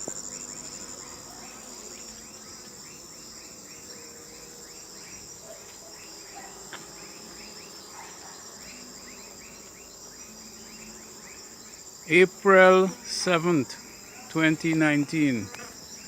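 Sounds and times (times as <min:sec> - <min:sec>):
insects trilling and chirping: 0:00.0 - 0:16.0.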